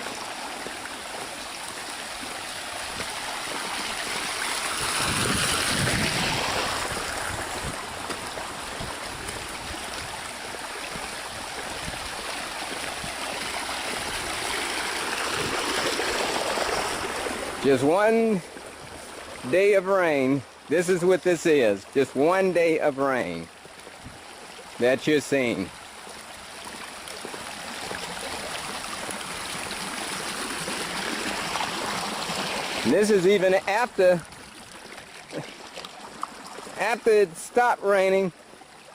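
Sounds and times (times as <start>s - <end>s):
rainwater flowing over ground: 0.0s - 38.9s
running water rushing: 0.0s - 38.9s.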